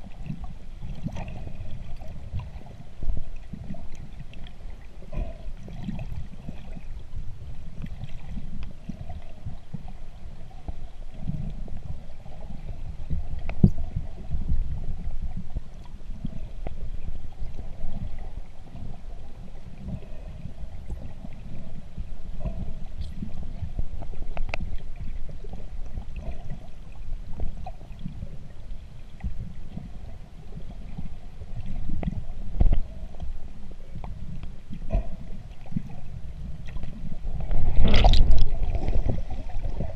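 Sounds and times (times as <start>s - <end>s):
muffled underwater rumble and swish: 0.0s - 39.9s.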